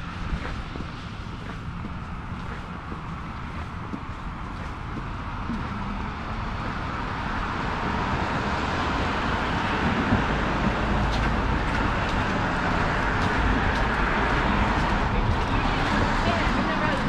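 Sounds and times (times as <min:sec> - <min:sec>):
street traffic passing: 0:00.0 - 0:17.0.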